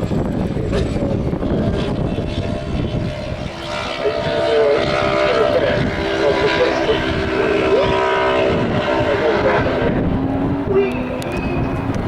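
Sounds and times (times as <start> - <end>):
racing car engine revving: 0.7 - 12.0.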